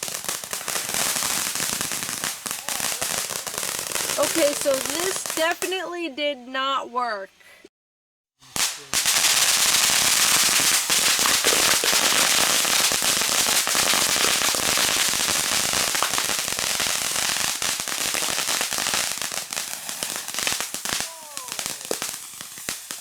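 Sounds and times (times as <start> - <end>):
firework high hiss: 0.0 - 5.8, 8.4 - 23.0
firework fountains crackling: 0.0 - 7.2, 8.4 - 23.0.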